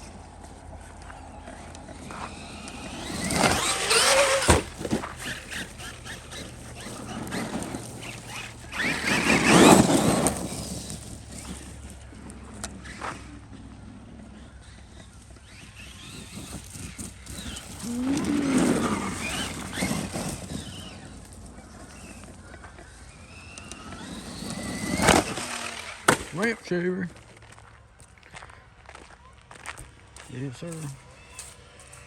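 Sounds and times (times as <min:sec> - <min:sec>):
electric motor whining: 0:00.0 - 0:27.0, 0:30.4 - 0:32.0
tyres rushing over ground: 0:00.0 - 0:32.0.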